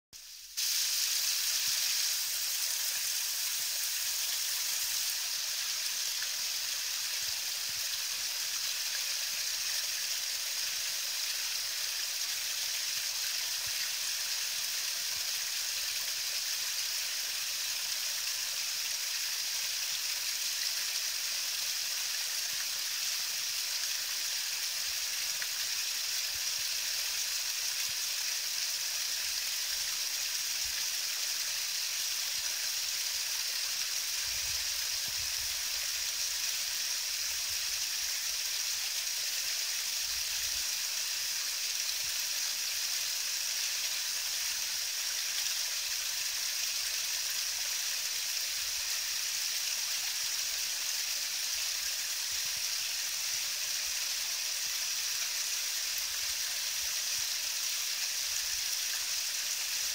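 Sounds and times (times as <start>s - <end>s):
waterfall splashing into pool: 0.2s - 59.9s.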